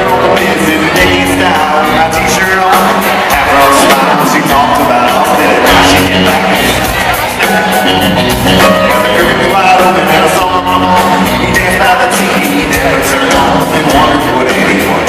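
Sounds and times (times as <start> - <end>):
live country-rock band: 0.0 - 15.0
male lead vocal: 0.0 - 15.0.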